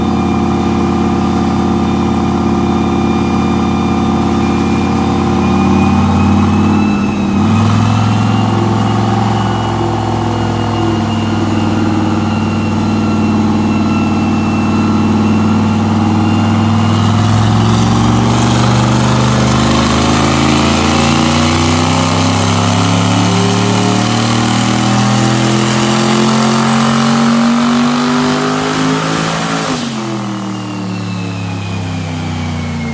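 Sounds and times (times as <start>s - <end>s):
engine running under load: 0.0s - 32.9s
high turbo whine: 0.0s - 32.9s.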